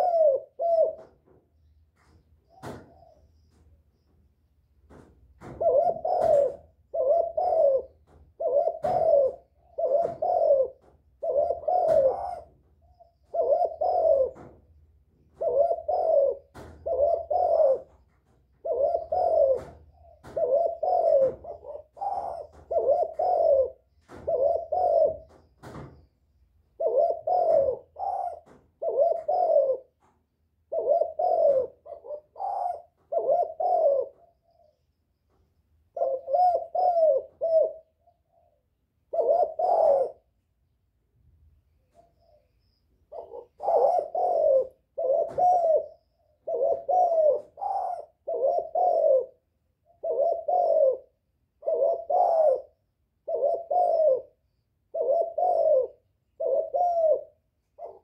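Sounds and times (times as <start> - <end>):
dove cooing: 0.0 - 4.2, 4.8 - 40.5, 41.8 - 58.0.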